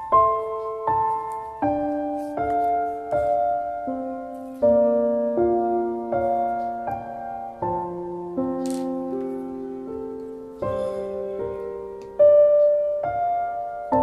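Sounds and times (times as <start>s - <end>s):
slow gentle piano: 0.0s - 14.0s.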